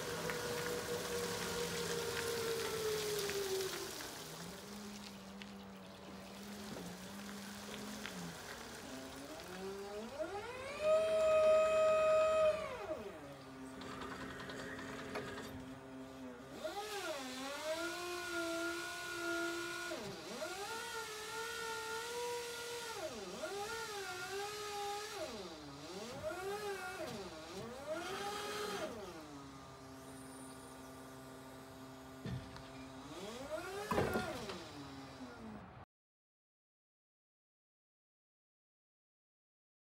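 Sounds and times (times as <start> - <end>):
electric forklift motor whine: 0.0 - 35.8.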